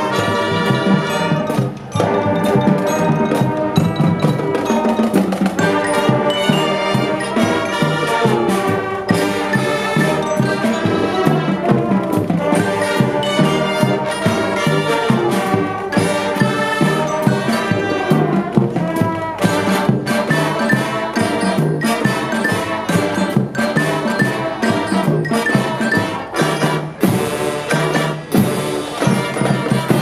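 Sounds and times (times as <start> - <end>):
brass and saxophones: 0.0 - 30.0
glockenspiel or xylophone: 0.0 - 30.0
steady drum beat: 0.0 - 30.0.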